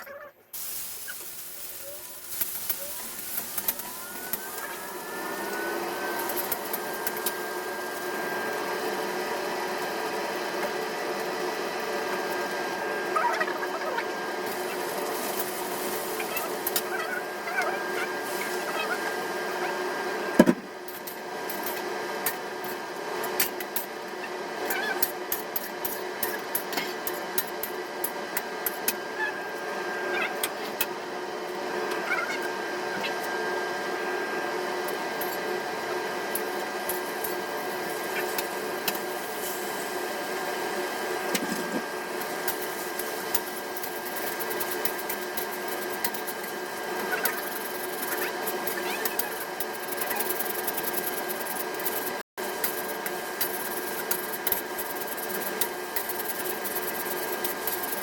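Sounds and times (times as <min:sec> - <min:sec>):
motor hum: 0:00.0 - 0:21.2, 0:28.3 - 0:58.0.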